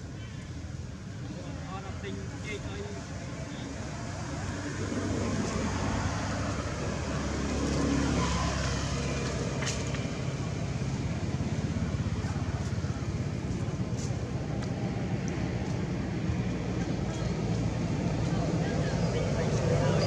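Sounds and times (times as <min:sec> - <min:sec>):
motor vehicle passing: 0:03.7 - 0:20.0.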